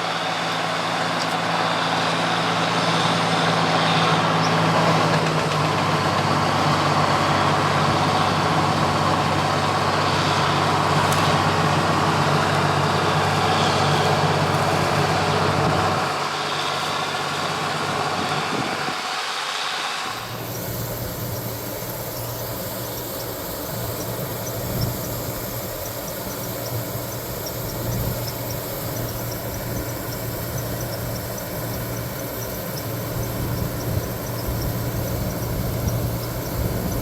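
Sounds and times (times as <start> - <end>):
diesel engine drone: 0.0 - 37.0
threshing machinery noise: 0.0 - 37.0.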